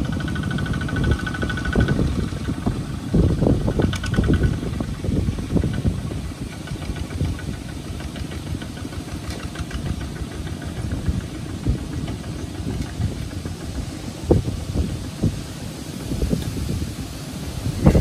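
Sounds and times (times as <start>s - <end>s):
tractor diesel engine chugging: 0.0s - 18.0s.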